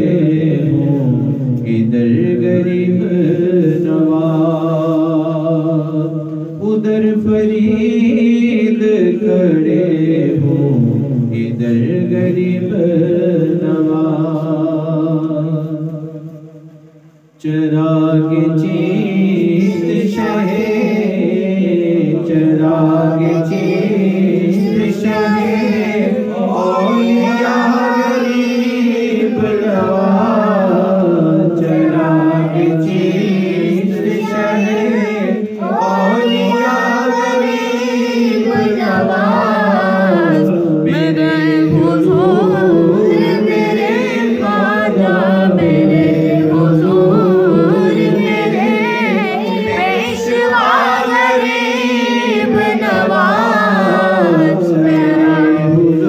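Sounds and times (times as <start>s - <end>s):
men singing unaccompanied: 0.0s - 16.4s, 17.4s - 56.0s.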